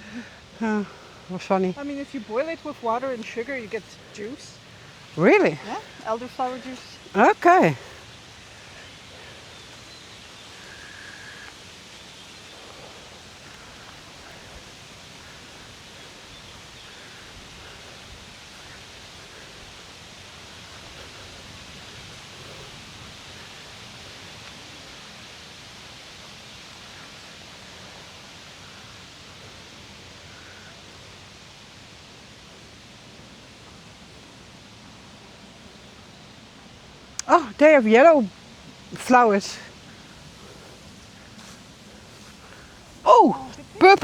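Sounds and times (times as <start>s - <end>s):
open air and foliage rustle: 0.0s - 44.0s.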